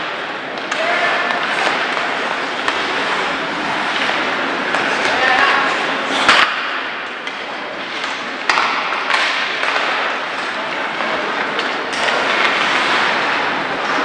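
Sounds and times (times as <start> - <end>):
ice hockey game noise: 0.0 - 14.0.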